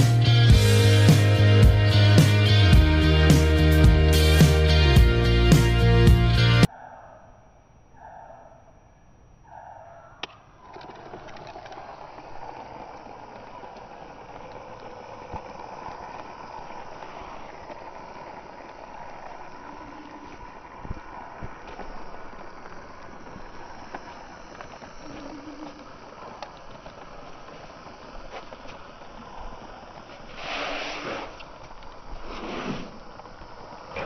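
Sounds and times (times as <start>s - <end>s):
small electric motor running: 0.0s - 6.7s, 10.2s - 34.0s
wheels rolling over rough concrete: 0.0s - 6.7s, 10.2s - 34.0s.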